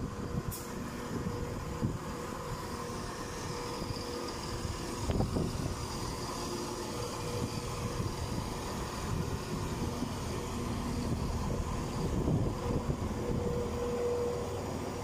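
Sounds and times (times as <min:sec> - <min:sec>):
diesel train engine hum: 0:00.0 - 0:15.0.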